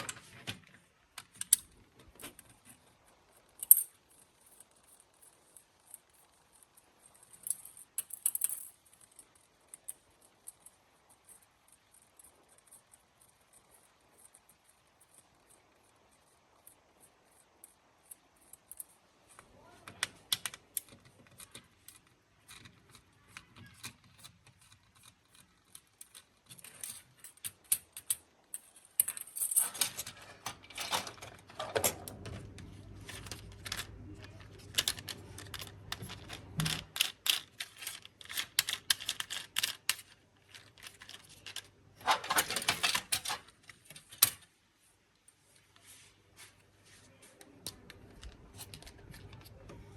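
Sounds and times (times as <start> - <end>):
plastic parts clicking and rattling: 0.0 - 15.6, 16.6 - 44.5, 47.6 - 49.8.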